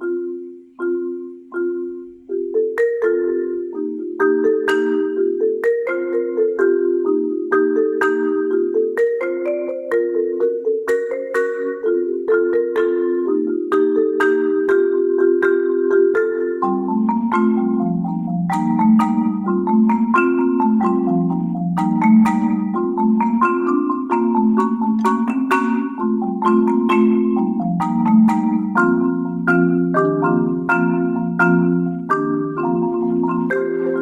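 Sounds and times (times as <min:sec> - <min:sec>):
solo marimba: 0:00.0 - 0:34.0.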